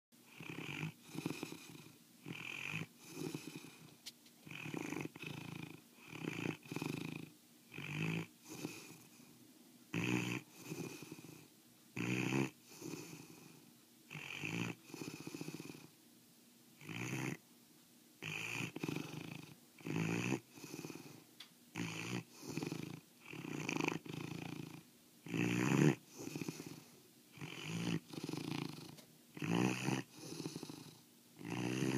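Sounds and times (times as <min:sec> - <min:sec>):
dog snoring: 0:00.2 - 0:16.0, 0:16.8 - 0:17.4, 0:18.2 - 0:31.9.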